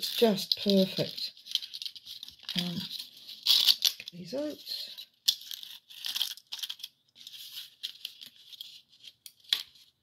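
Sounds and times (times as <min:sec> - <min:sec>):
paper packaging rustling: 0:00.0 - 0:10.0.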